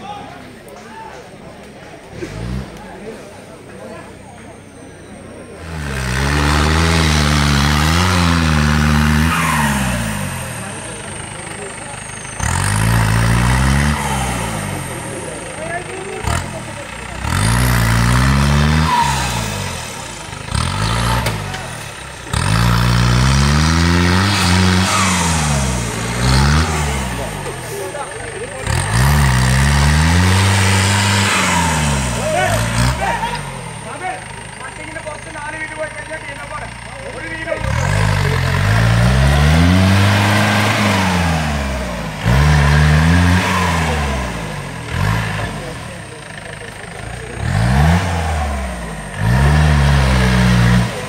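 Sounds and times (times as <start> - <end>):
jeep engine revving hard: 2.0 - 3.7, 5.4 - 51.0.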